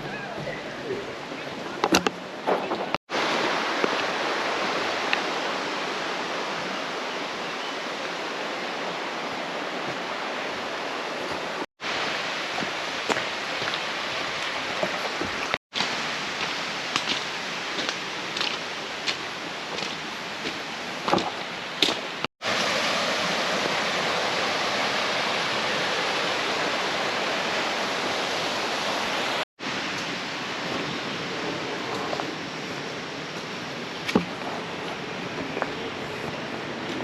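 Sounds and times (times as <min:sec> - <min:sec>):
rushing falling water: 0:00.0 - 0:37.0.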